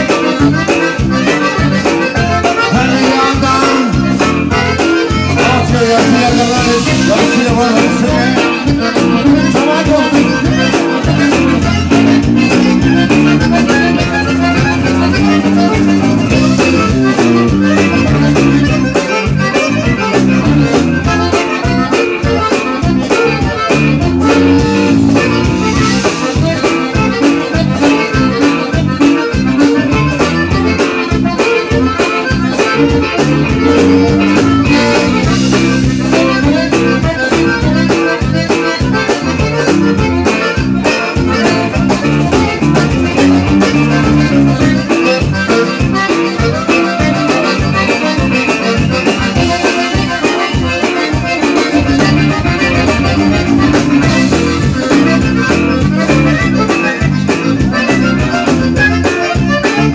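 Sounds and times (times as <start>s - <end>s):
band playing: 0.0s - 59.9s
button accordions: 0.0s - 59.9s.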